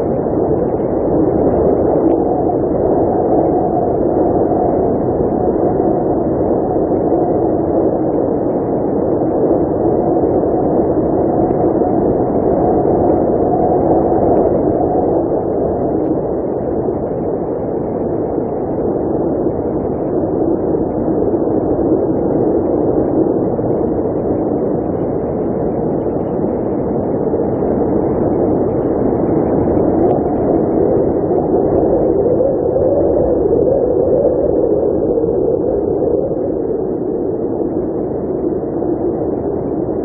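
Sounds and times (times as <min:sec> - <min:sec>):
blizzard wind blowing: 0:00.0 - 0:40.0.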